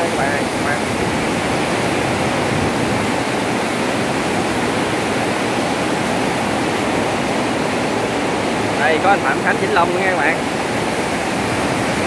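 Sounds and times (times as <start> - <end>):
water rushing through sluice gate: 0.0 - 12.0.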